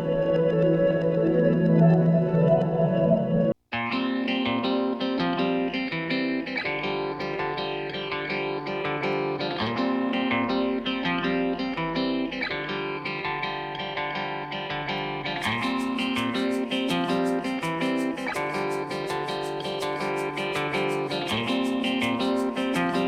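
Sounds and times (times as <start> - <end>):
plucked guitar music: 0.0 - 23.0.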